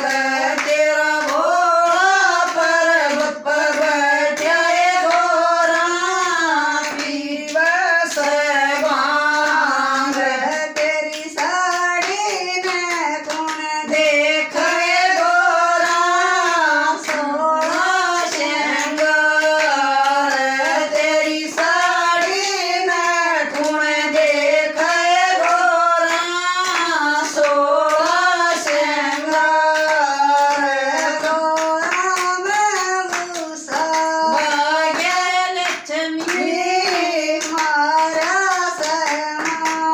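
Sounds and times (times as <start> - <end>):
devotional folk singing: 0.0 - 39.9
hand claps: 0.0 - 39.9.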